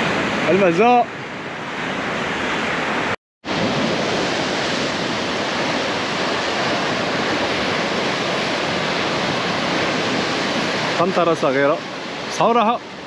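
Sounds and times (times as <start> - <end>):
sea surf breaking on shore: 0.0 - 13.0.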